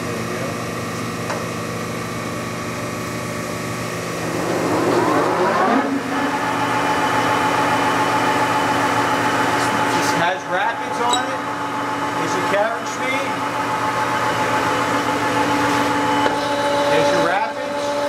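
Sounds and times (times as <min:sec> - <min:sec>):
lathe running with mechanical hum: 0:00.0 - 0:18.0.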